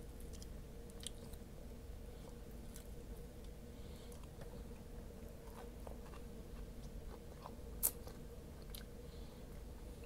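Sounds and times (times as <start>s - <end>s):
chewing meat: 0.2s - 1.5s, 2.2s - 10.0s.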